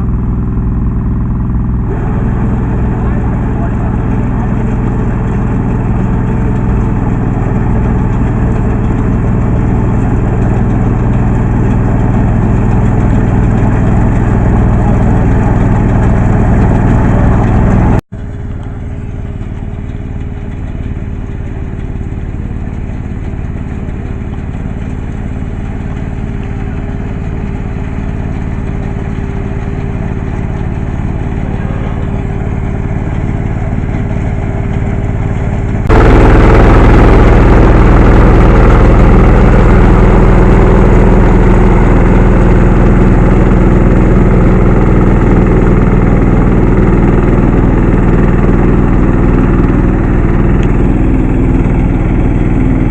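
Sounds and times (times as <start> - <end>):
combine harvester running: 0.0 - 52.9.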